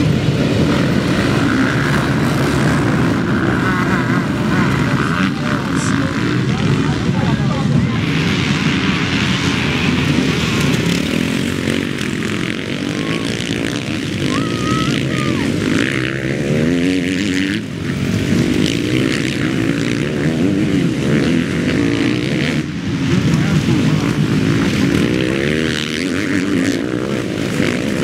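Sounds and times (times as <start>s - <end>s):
motocross bikes revving by: 0.0s - 28.0s.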